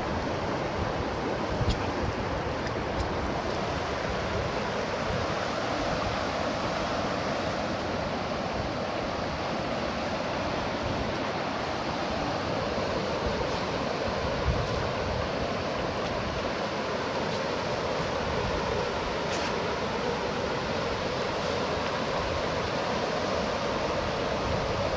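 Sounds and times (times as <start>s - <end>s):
water washing along rocky shore: 0.0s - 24.9s.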